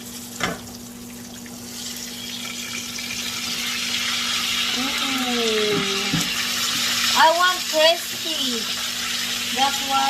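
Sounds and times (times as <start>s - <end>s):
meat sizzling in a pan: 1.6s - 10.0s.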